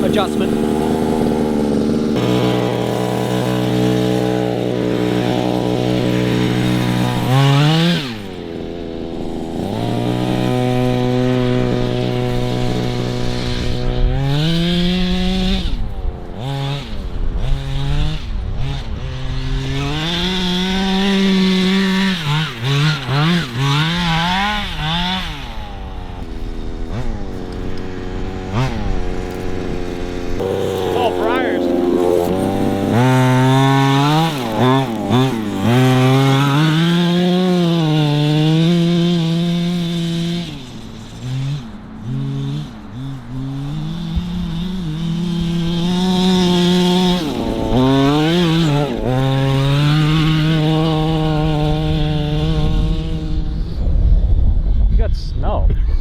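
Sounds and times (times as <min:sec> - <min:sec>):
two-stroke engine idling and revving: 0:00.0 - 0:55.1.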